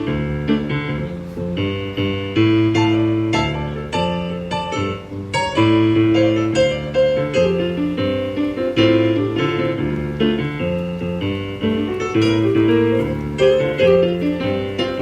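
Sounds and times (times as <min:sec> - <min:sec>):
piano chords on keyboard: 0:00.0 - 0:15.0.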